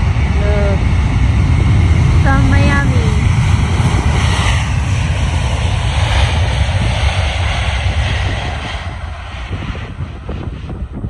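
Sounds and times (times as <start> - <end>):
jet engines rumbling and hissing: 0.0 - 11.0.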